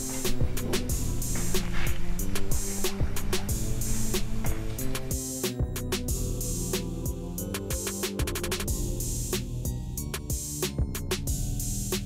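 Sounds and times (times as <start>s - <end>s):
electronic music with drum beat: 0.0s - 12.0s.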